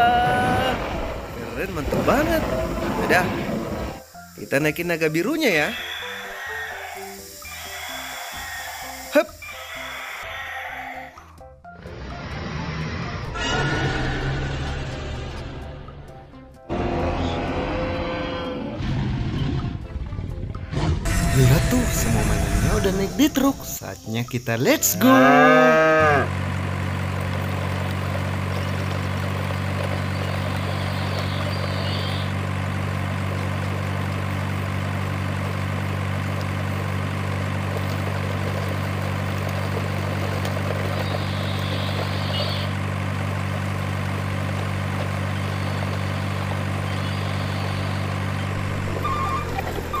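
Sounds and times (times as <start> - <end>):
truck engine idling: 0.0 - 6.2, 11.2 - 50.0.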